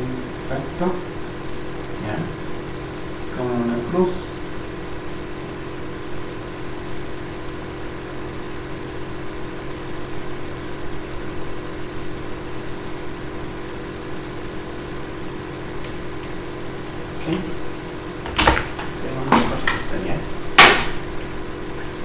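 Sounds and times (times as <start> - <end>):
steady hum with held tones: 0.0 - 22.0.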